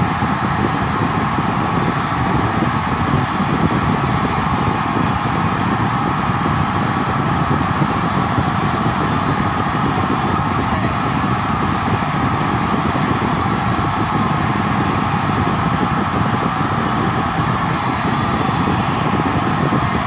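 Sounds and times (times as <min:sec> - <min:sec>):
stadium crowd cheering: 0:00.0 - 0:20.0.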